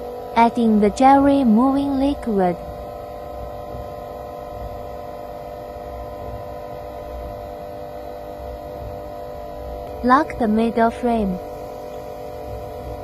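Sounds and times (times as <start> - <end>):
machine electrical hum: 0.0 - 13.0
vacuum pump running: 0.0 - 13.0.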